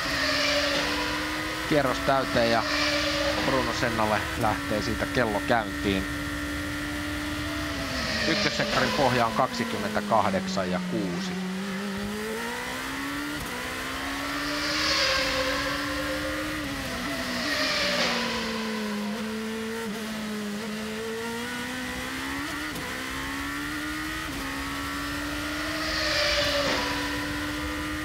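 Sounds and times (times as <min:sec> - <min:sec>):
race car engine: 0:00.0 - 0:28.0.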